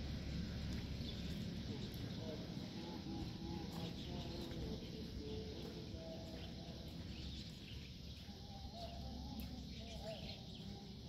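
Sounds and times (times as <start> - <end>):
low outdoor rumble: 0.0 - 11.0
faint bird chirps: 0.9 - 11.0.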